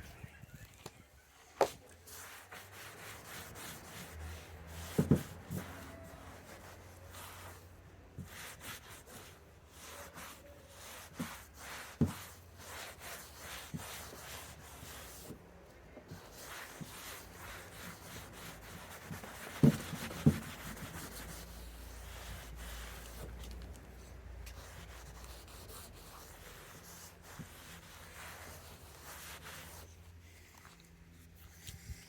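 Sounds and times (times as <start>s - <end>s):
cloth rubbing on wood: 1.6s - 15.4s, 16.1s - 23.4s, 24.5s - 30.0s.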